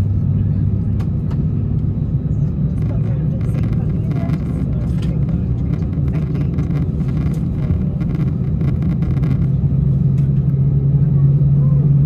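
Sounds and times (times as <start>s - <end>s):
jet engine hum in cabin: 0.0s - 12.0s.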